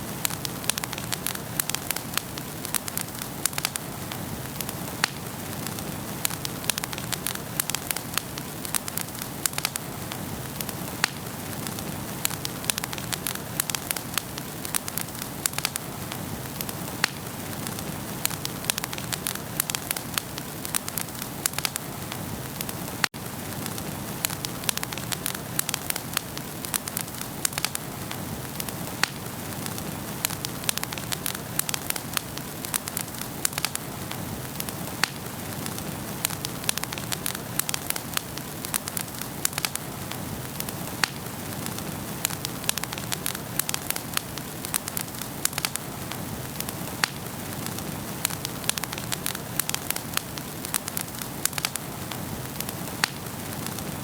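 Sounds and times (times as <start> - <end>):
steady fire hiss: 0.0 - 54.0
wood fire crackling and popping: 0.0 - 54.0.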